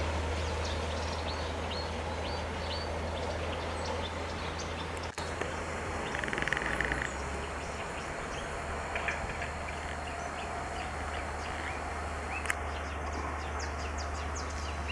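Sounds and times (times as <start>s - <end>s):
small birds chirping: 0.4s - 14.9s.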